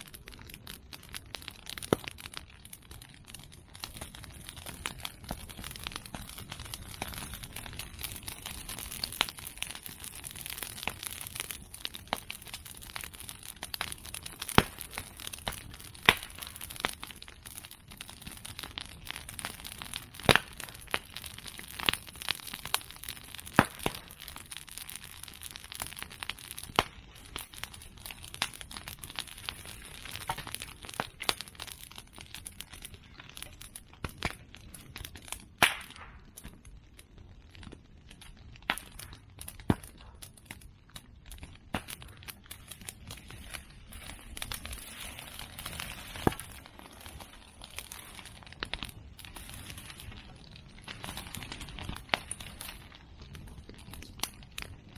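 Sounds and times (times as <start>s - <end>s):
bamboo popping in fire: 0.0s - 54.9s
fire crackling: 0.0s - 54.9s.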